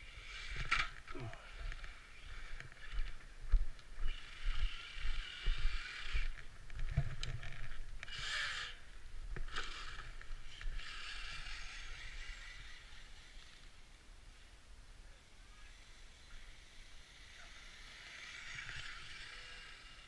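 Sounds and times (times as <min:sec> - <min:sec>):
electric drivetrain whirring: 0:00.0 - 0:14.6, 0:15.2 - 0:20.0.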